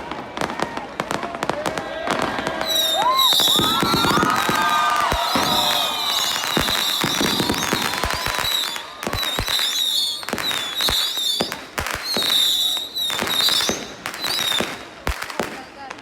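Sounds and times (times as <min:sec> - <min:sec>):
fireworks cracking and banging: 0:00.0 - 0:16.0
fireworks whistling: 0:00.0 - 0:16.0.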